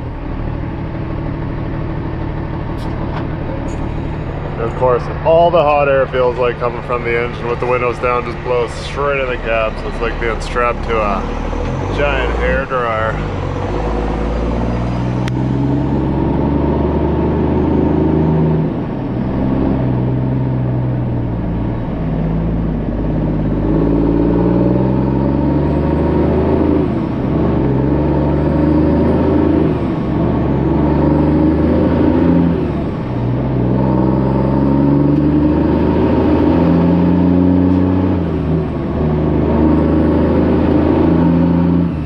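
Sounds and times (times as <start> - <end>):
diesel truck engine accelerating: 0.0 - 42.0.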